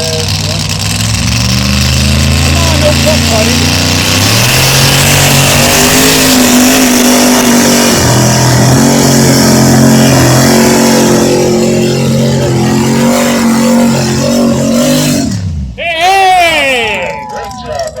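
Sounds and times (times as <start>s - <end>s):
truck engine at high revs: 0.0s - 18.0s.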